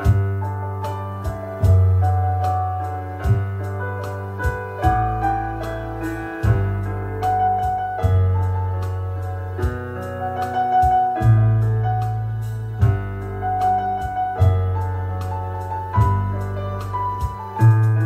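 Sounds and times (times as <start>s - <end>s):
piano chords with melody: 0.0s - 18.0s.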